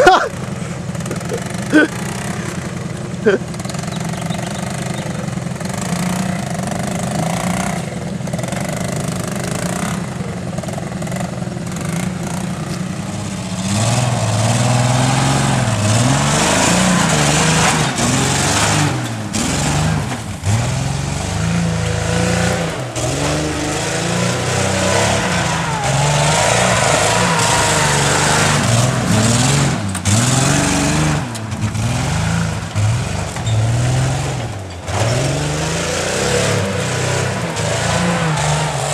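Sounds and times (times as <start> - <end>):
engine revving: 0.8 - 38.9.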